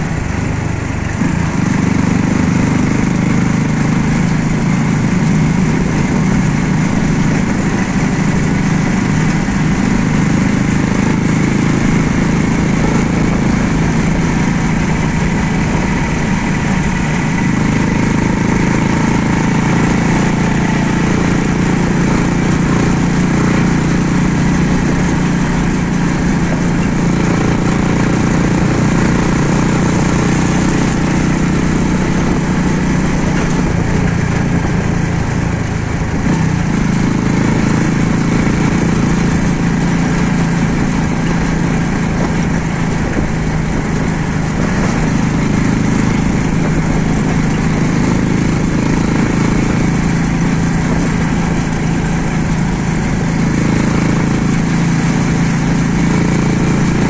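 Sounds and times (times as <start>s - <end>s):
road and wind noise: 0.0s - 57.0s
small vehicle engine running: 0.0s - 57.0s.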